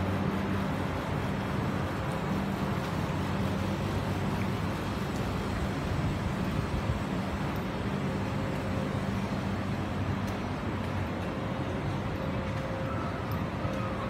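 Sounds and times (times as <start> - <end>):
distant road traffic rumble: 0.0 - 14.0
steady hum: 0.0 - 14.0.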